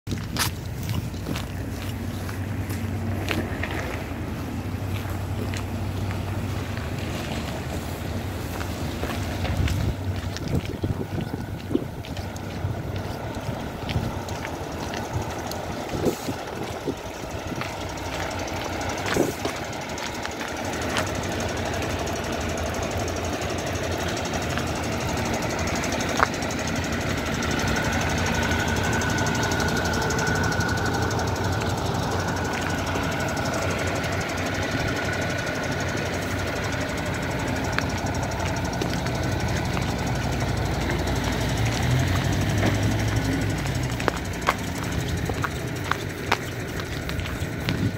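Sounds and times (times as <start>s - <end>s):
diesel engine idling: 0.1s - 47.9s.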